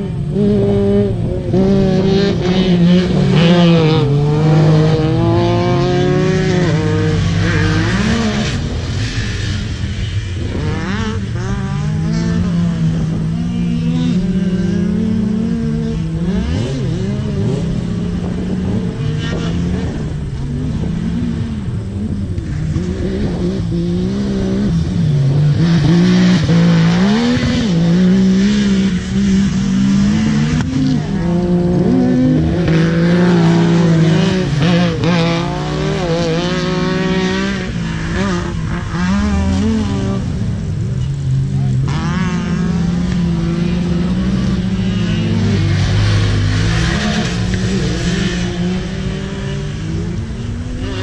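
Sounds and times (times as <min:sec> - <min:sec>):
off-road vehicle engine revving: 0:00.0 - 0:51.0.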